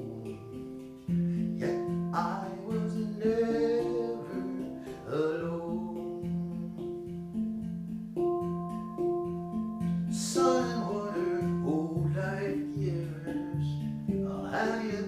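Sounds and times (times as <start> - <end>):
person singing: 0.0 - 7.5, 9.4 - 15.0
fingerpicked acoustic guitar: 0.0 - 15.0.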